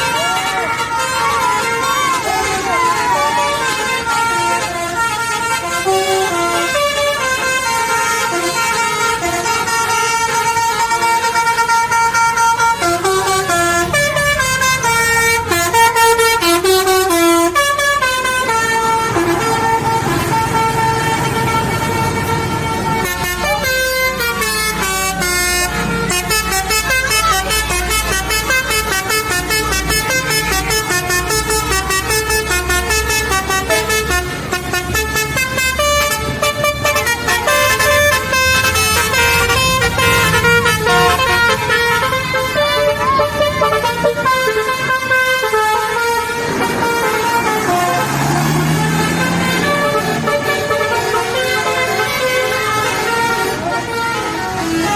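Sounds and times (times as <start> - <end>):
musical vehicle horn playing tunes: 0.0 - 54.9.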